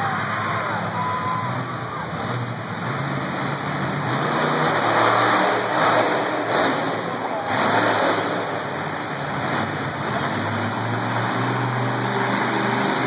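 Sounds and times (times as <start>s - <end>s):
crowd noise: 0.0s - 13.0s
truck engine running: 0.0s - 13.0s.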